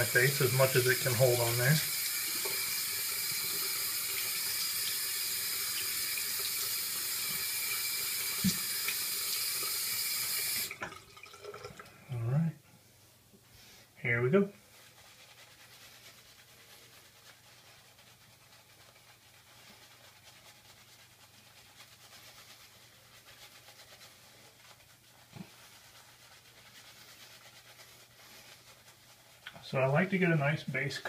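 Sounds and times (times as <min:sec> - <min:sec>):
shaving brush swishing on skin: 0:00.0 - 0:09.2, 0:14.6 - 0:31.0.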